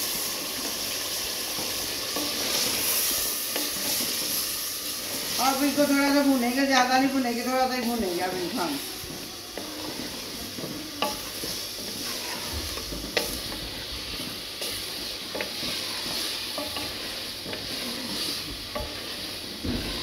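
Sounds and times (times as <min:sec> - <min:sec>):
food sizzling in a pot: 0:00.0 - 0:20.0
wooden spatula scraping a pot: 0:00.1 - 0:20.0.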